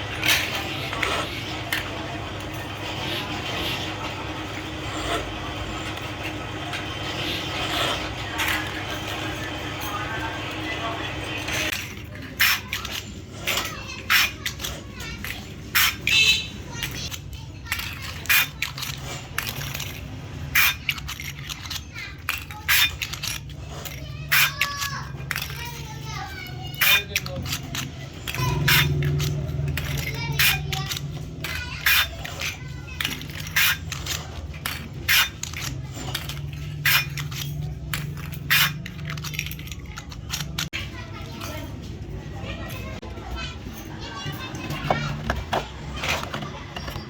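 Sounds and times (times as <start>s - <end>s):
small metal parts clinking: 0.0s - 4.6s, 11.4s - 47.0s
workshop machine humming: 0.0s - 47.0s.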